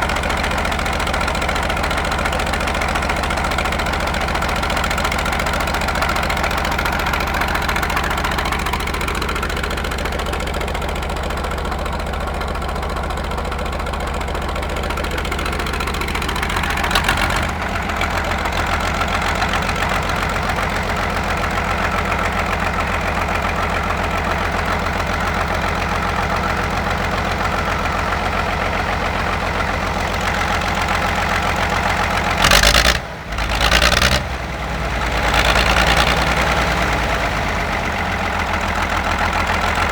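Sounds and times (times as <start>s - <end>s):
large engine idling: 0.0s - 39.9s.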